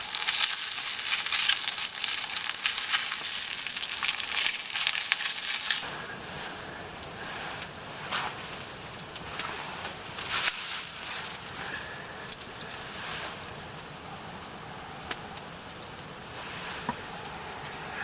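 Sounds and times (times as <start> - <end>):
campfire hissing and crackling: 0.0 - 18.0.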